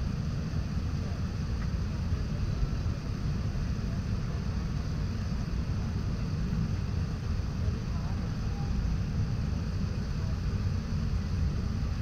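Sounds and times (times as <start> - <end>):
airliner cabin rumble: 0.0 - 12.0
jet engines running at low power: 0.0 - 12.0.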